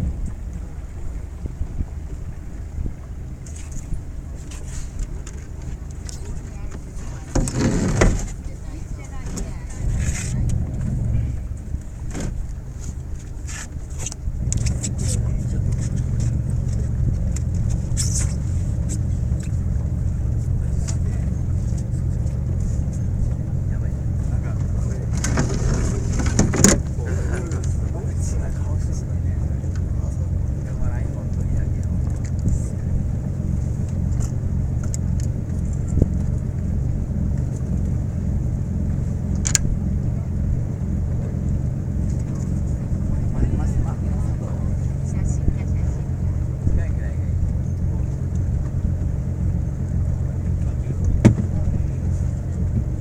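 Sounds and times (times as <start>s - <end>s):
boat engine rumbling: 0.0s - 53.0s.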